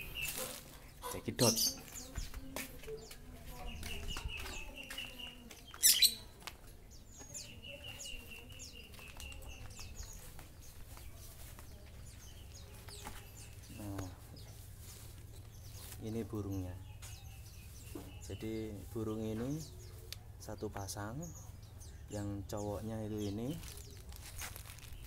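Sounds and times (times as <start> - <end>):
caged birds chirping and trilling: 0.0 - 25.0.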